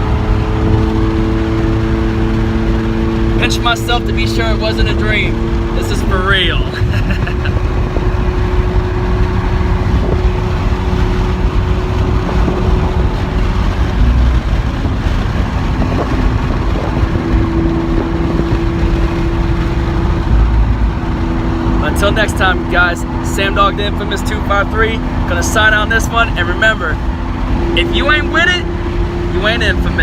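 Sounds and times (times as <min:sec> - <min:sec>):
car engine droning in cabin: 0:00.0 - 0:30.0
road noise: 0:00.0 - 0:30.0.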